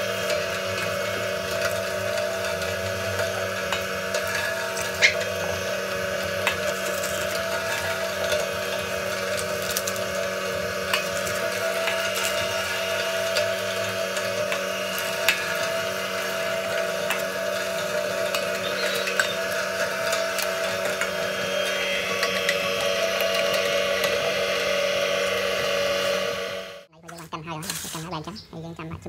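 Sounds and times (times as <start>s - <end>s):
electric meat grinder running: 0.0s - 26.9s.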